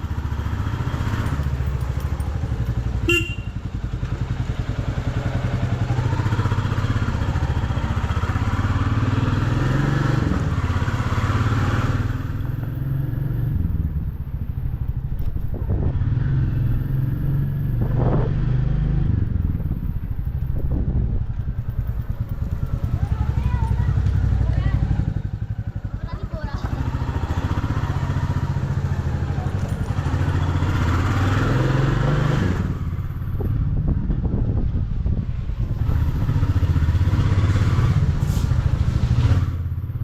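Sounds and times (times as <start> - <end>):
motorcycle engine running: 0.0 - 37.8
wind and road rush: 0.0 - 40.0.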